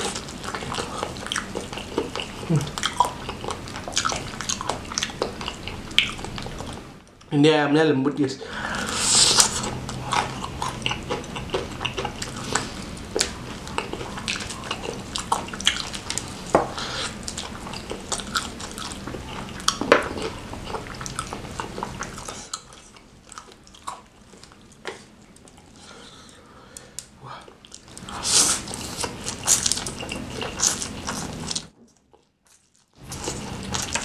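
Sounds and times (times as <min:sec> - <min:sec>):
person chewing wetly: 0:00.0 - 0:07.3, 0:08.7 - 0:34.0.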